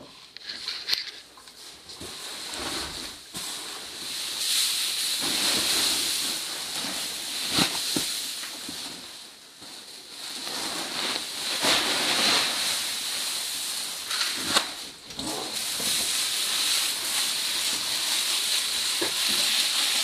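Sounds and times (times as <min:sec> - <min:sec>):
sharp crinkles: 0:02.2 - 0:20.0
mushroom substrate rustling in a bag: 0:02.3 - 0:14.8, 0:15.4 - 0:20.0.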